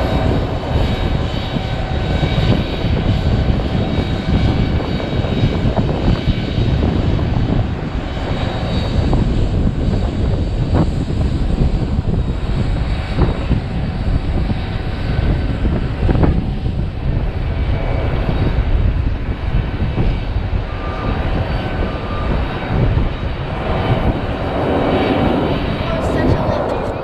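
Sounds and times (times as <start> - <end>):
airliner engines rumbling: 0.0 - 27.0.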